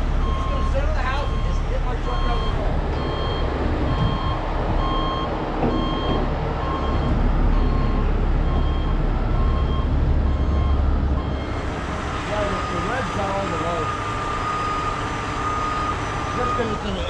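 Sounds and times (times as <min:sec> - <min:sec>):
truck engine rumbling: 0:00.0 - 0:17.0
truck reverse alarm beeping: 0:00.0 - 0:17.0.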